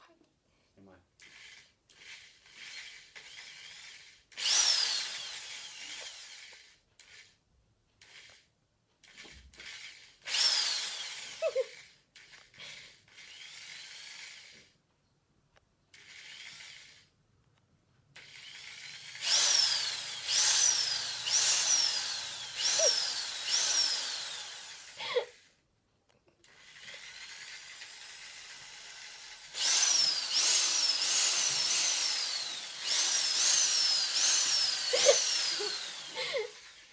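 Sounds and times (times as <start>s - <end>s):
electric drill whining: 1.2s - 7.4s, 8.0s - 14.8s, 16.0s - 17.1s, 18.2s - 25.5s, 26.4s - 36.9s.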